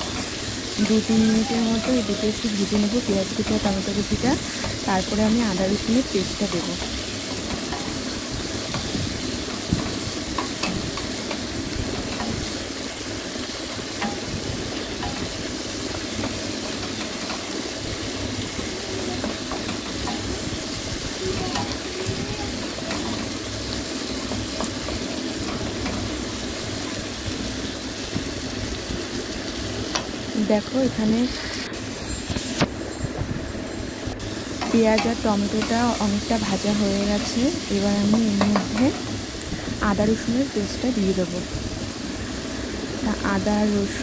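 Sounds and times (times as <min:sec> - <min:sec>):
onion and tomato sizzling in oil: 0:00.0 - 0:44.0.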